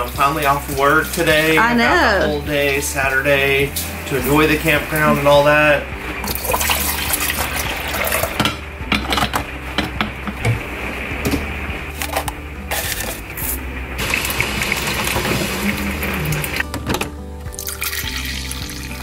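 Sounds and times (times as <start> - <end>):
water filling coffee maker: 0.0 - 1.6, 2.5 - 19.0.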